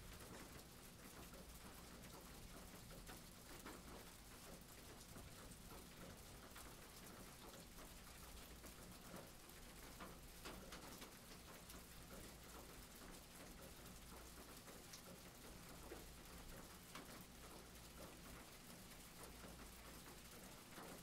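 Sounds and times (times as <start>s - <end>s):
faint rain pattering: 0.0s - 21.0s.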